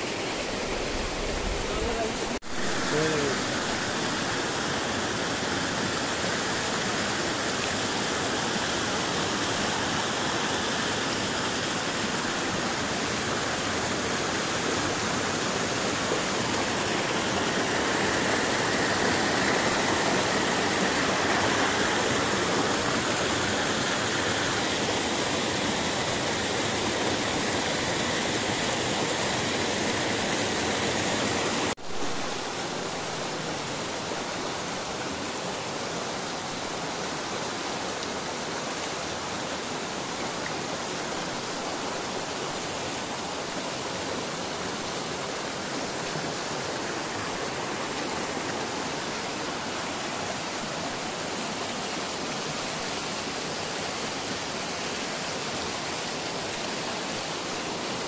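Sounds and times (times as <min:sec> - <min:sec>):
water rushing over stones: 0:00.0 - 0:58.0.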